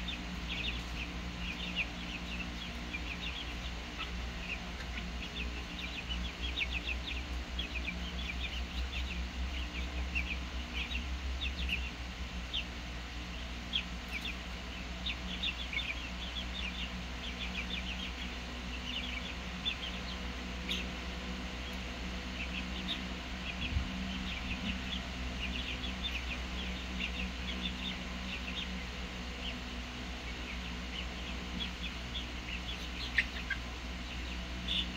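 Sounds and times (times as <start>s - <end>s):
chicks peeping: 0.0s - 34.9s
steady low hum: 0.0s - 34.9s.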